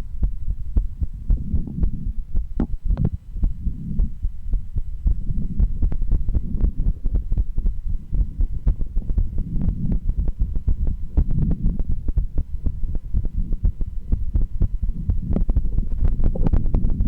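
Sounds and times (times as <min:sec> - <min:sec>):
heartbeat through stethoscope: 0:00.0 - 0:17.0
low rumble: 0:00.0 - 0:17.0.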